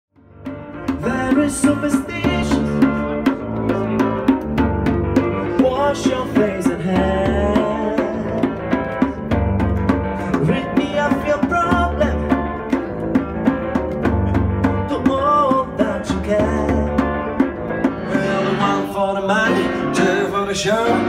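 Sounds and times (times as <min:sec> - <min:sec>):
keyboard chords and bass: 0:00.1 - 0:21.0
hand drum beat: 0:00.4 - 0:18.7
man singing: 0:00.8 - 0:04.4, 0:05.2 - 0:09.2, 0:10.1 - 0:13.1, 0:14.6 - 0:21.0.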